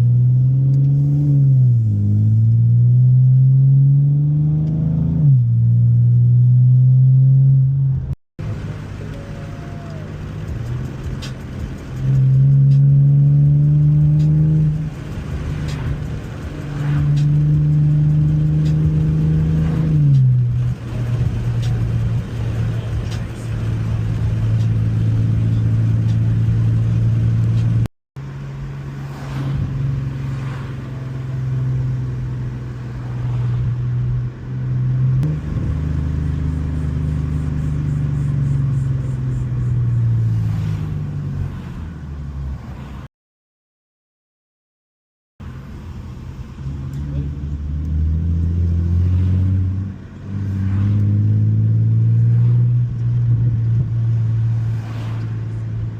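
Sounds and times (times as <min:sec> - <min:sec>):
car exhaust under load: 0:00.0 - 0:42.3, 0:46.3 - 0:55.9.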